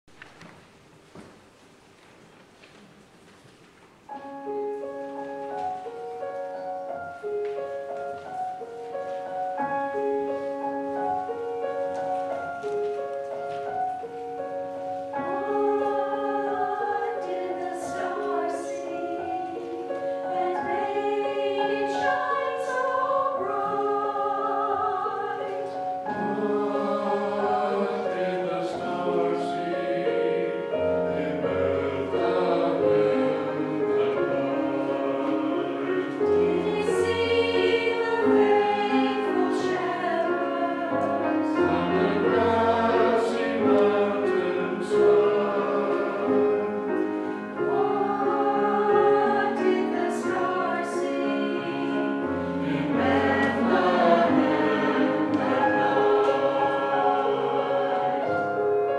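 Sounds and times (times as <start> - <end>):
church choir singing: 4.1 - 58.9.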